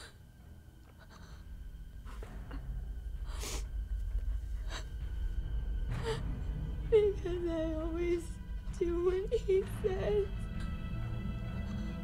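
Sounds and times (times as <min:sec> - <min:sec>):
low rumbling drone: 0:00.0 - 0:12.0.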